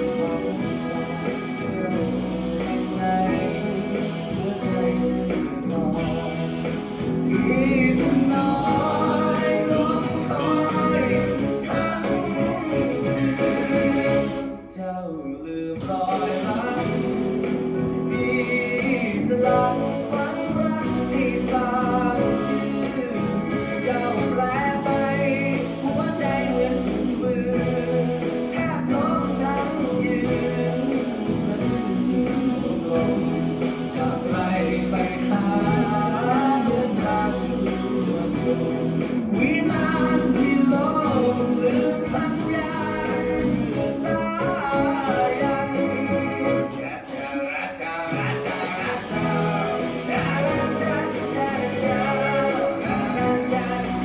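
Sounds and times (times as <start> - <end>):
guitar strumming: 0.0 - 14.8, 15.9 - 54.0
person singing: 0.0 - 54.0.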